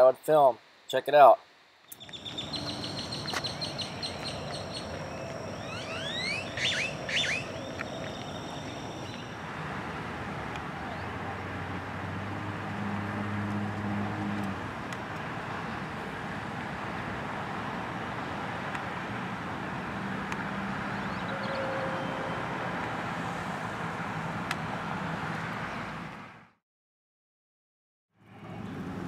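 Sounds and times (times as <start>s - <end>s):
road traffic hum: 1.8s - 26.6s, 28.2s - 29.0s.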